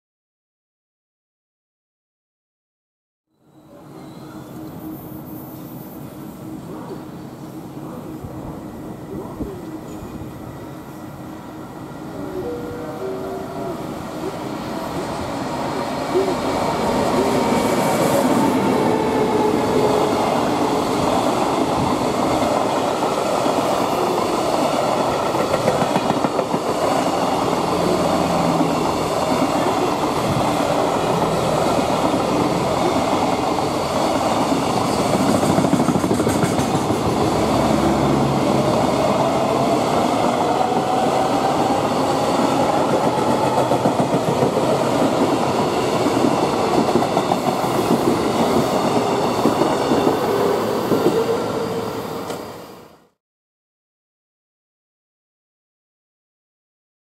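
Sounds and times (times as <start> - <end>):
freight train passing: 3.5 - 53.2.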